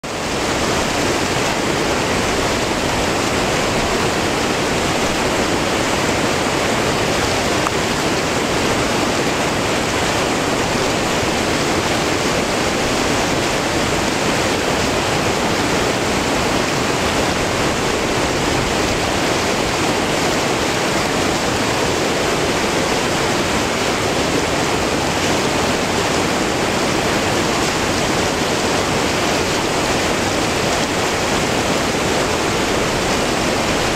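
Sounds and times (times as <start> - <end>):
river rapids rushing: 0.0 - 33.9.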